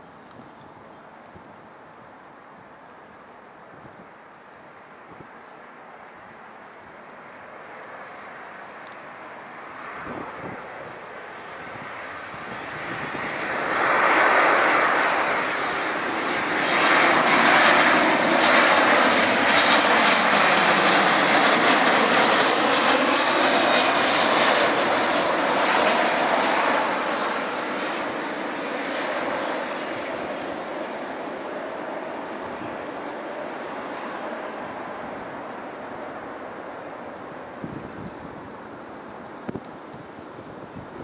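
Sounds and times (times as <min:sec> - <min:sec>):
jet airliner passing overhead: 0:00.0 - 0:41.0.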